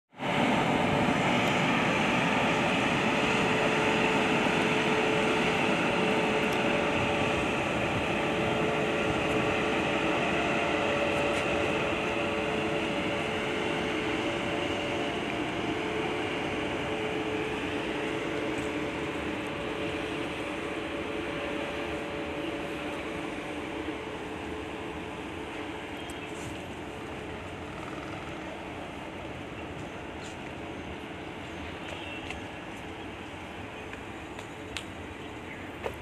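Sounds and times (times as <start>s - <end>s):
train running noise: 0.1s - 36.0s.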